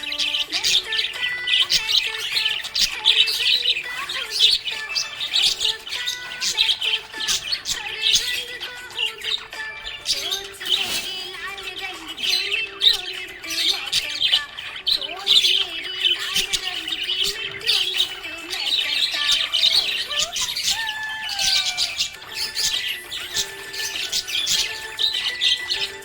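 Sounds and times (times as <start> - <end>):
budgies chirping: 0.0 - 26.0.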